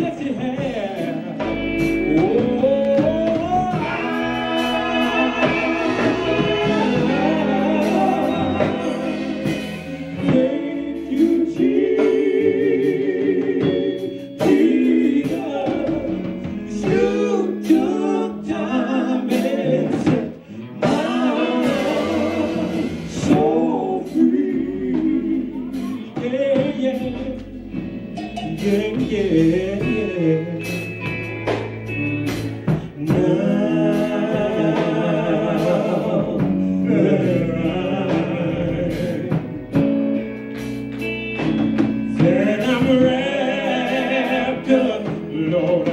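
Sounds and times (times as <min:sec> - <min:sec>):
male vocal quartet singing: 0:00.0 - 0:30.9, 0:32.7 - 0:39.9, 0:42.1 - 0:45.9
electric guitar: 0:00.0 - 0:45.9.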